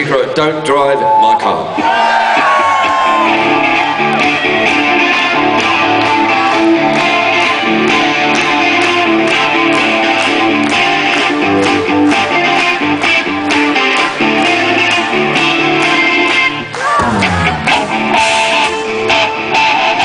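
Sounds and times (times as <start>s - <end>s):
live rock band playing: 1.8s - 20.0s.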